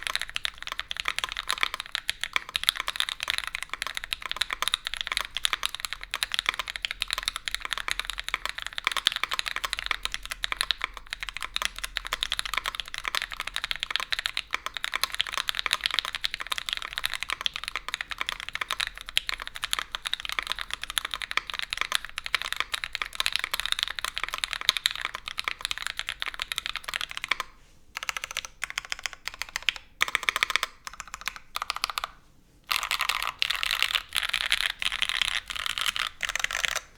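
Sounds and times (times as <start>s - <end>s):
typing on mechanical keyboard: 0.0s - 36.9s.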